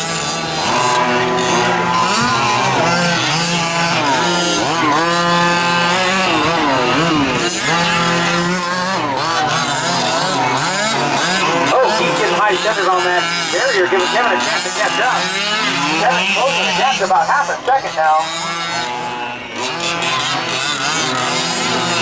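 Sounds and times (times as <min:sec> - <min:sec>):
small gas engines revving: 0:00.0 - 0:22.0.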